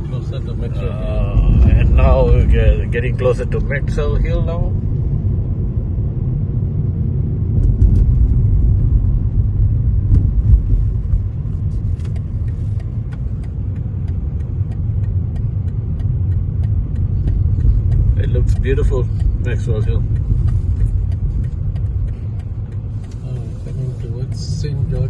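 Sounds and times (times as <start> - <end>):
car driving on road: 0.0 - 25.0.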